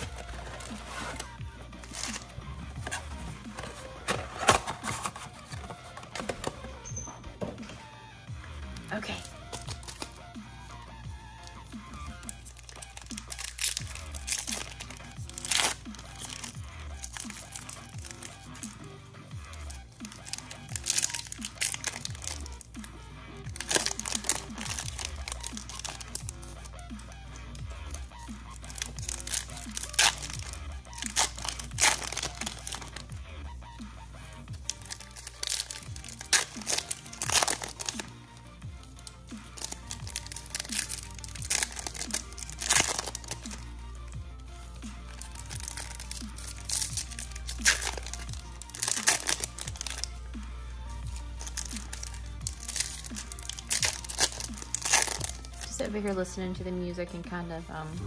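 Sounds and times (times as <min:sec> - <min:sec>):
foil wrapper tearing and crinkling: 0:00.0 - 0:06.6, 0:09.0 - 0:10.4, 0:11.4 - 0:22.8, 0:23.4 - 0:33.2, 0:34.6 - 0:38.2, 0:38.8 - 0:43.8, 0:45.0 - 0:50.3, 0:51.0 - 0:56.2
background music: 0:00.0 - 0:58.0.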